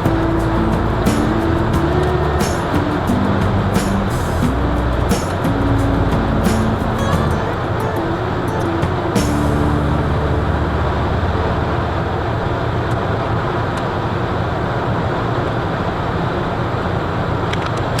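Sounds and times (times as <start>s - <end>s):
car road and engine noise: 0.0s - 18.0s.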